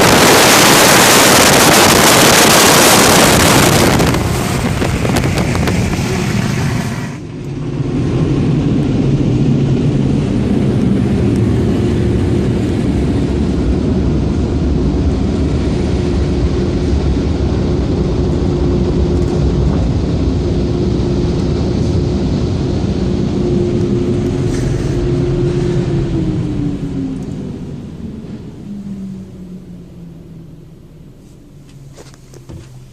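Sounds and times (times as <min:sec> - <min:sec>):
blowers droning with whine: 0:00.0 - 0:32.9.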